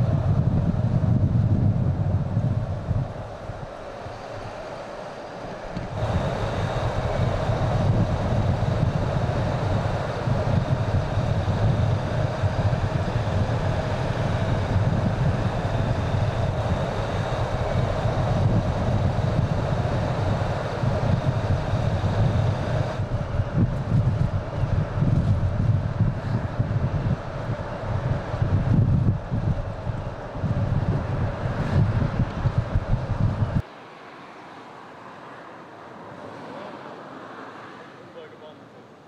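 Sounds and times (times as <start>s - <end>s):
wind noise: 0.0s - 33.7s
bus engine and tyres rumbling: 0.0s - 39.0s.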